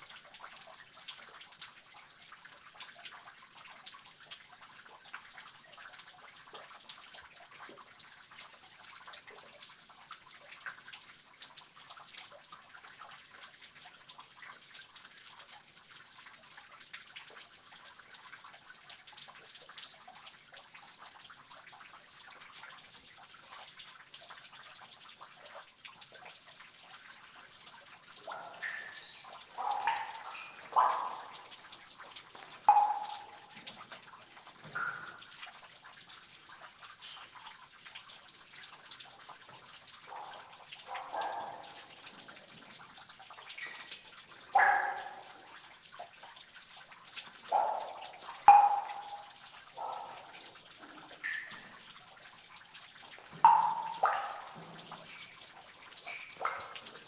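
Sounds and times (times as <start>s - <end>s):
trickle of flowing water: 0.0s - 57.0s
water dripping in a cave: 0.0s - 57.0s.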